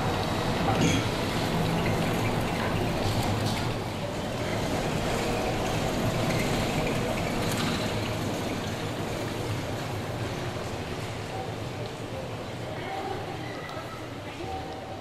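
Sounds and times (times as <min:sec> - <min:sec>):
tyres rumbling on cobblestones: 0:00.0 - 0:13.4
trolleybus low hum: 0:00.0 - 0:15.0.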